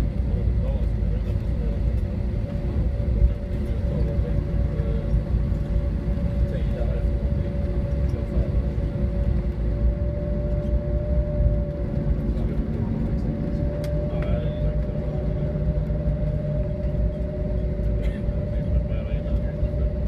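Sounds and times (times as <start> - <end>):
plane wheels and engines rumbling: 0.0 - 20.0.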